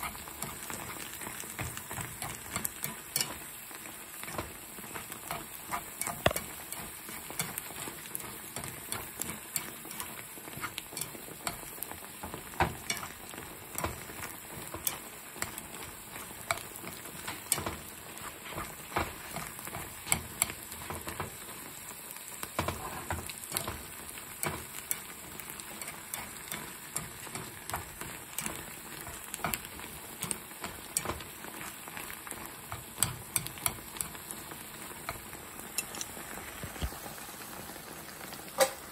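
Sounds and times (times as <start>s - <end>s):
tongs clicking and scraping pan: 0.0s - 21.7s, 22.4s - 36.9s
food sizzling in a skillet: 0.0s - 38.9s.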